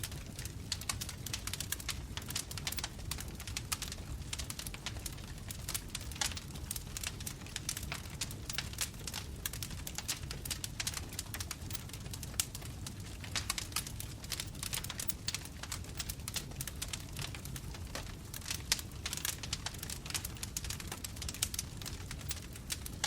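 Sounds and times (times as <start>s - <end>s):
low rumble of flames: 0.0s - 23.0s.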